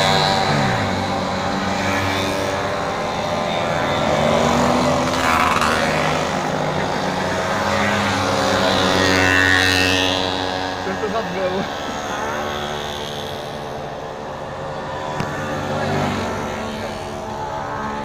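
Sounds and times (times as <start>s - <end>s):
mopeds and motorcycles buzzing past: 0.0s - 18.0s.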